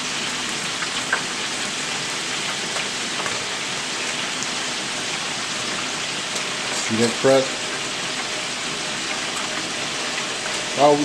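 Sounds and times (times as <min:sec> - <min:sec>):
food sizzling in hot fat: 0:00.0 - 0:11.0.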